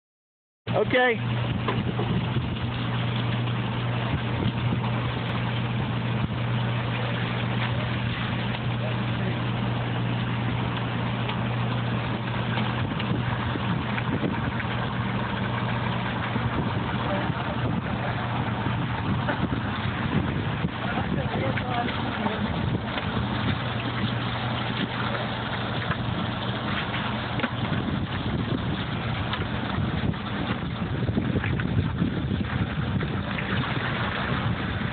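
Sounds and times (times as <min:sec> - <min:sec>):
low motor hum: 0:00.7 - 0:34.9
water splashing from pipes: 0:00.7 - 0:34.9.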